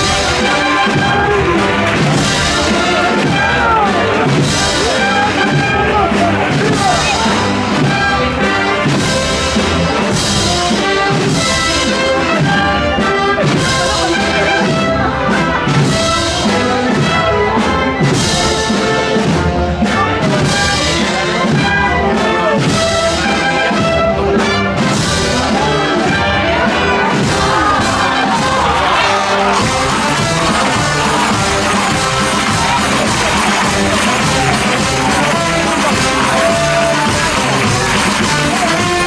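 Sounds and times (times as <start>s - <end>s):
drums and cymbals beat: 0.0s - 39.0s
trumpets and trombones playing march: 0.0s - 39.0s.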